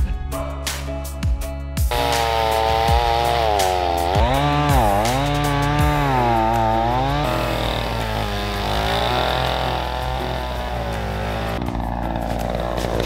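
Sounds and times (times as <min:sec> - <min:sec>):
chainsaw cutting wood: 0:01.9 - 0:13.0.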